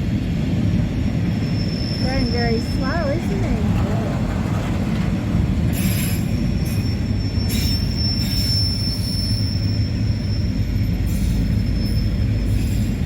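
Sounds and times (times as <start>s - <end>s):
train rumbling past: 0.0s - 13.0s
train wheels squealing: 0.1s - 13.0s.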